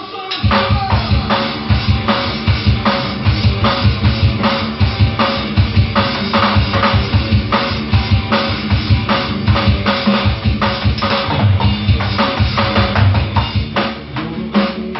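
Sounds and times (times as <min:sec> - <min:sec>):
drum kit playing steady beat: 0:00.0 - 0:14.9
recorded song: 0:00.0 - 0:14.9.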